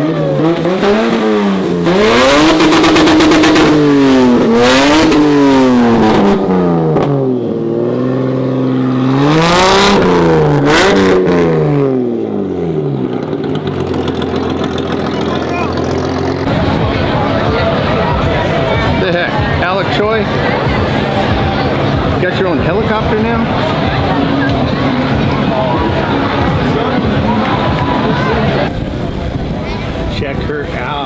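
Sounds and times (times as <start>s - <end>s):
car engine revving: 0.0s - 30.2s.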